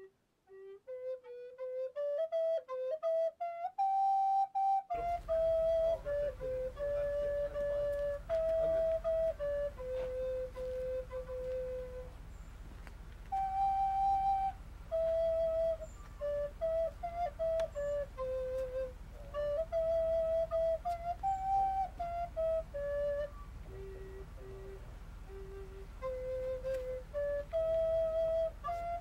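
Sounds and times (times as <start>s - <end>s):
flute-like slow melody: 0.0s - 29.0s.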